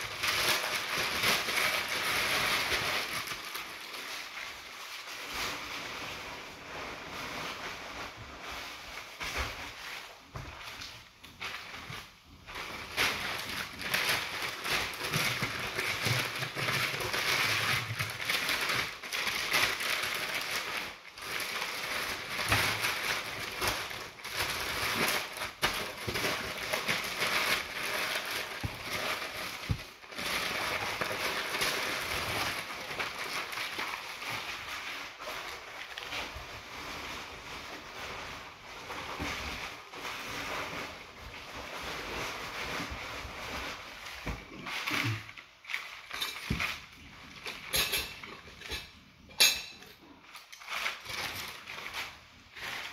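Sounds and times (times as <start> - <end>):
paper crumpling and rustling: 0.0 - 52.9.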